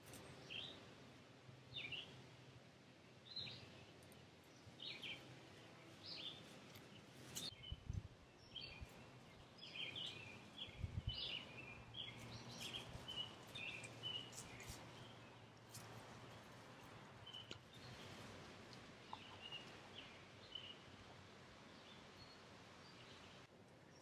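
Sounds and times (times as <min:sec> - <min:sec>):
faint songbird chirps: 0:03.1 - 0:24.0.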